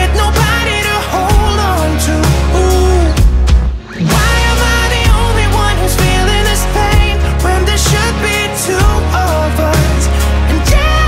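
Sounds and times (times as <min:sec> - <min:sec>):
song with steady beat and bass: 0:00.0 - 0:11.0.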